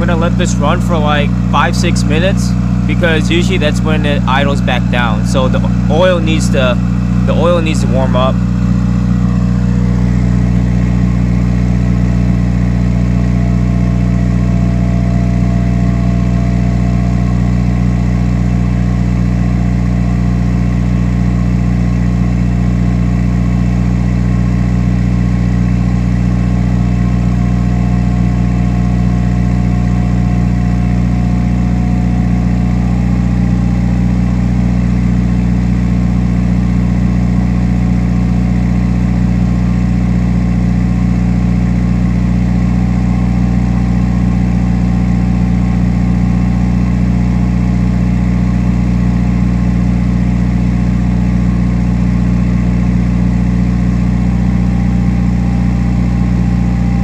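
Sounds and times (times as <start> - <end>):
car engine high idle: 0.0 - 57.0.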